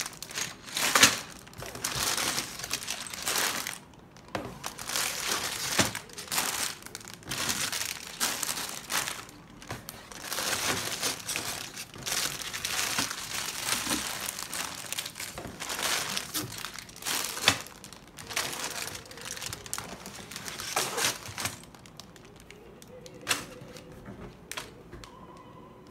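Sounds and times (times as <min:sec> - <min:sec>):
plastic bags crinkling: 0:00.0 - 0:24.8.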